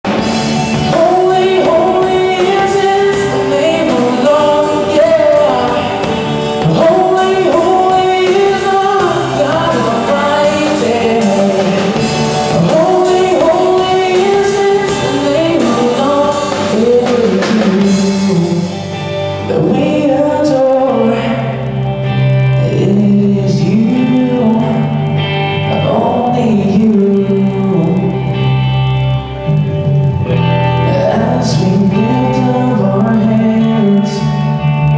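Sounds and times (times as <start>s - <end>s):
man singing: 0.0s - 28.6s, 29.4s - 34.9s
drums: 0.0s - 34.9s
electric guitars: 0.0s - 34.9s
low bass line: 0.0s - 34.9s.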